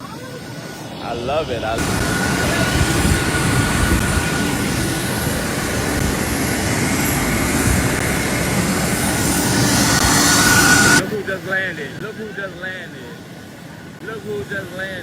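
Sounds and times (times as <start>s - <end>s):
aircraft engines rumbling: 0.0s - 15.0s
thin steady whine: 0.0s - 15.0s.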